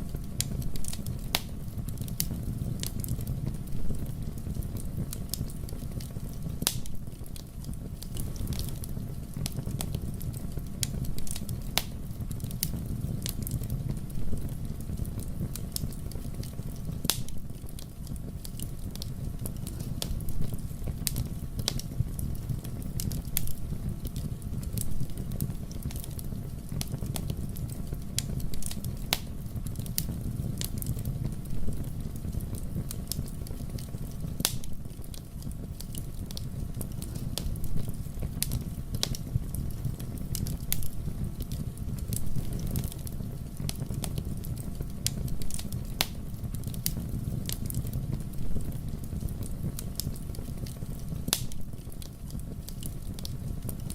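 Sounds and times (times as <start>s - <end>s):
fire crackling in fireplace: 0.0s - 53.9s.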